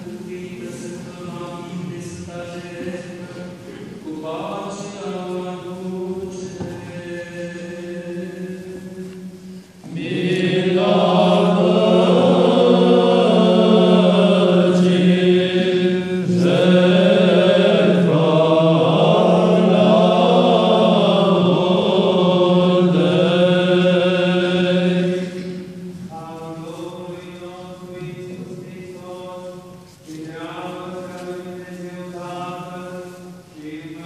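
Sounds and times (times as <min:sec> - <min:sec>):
choir chanting: 0:00.0 - 0:29.6.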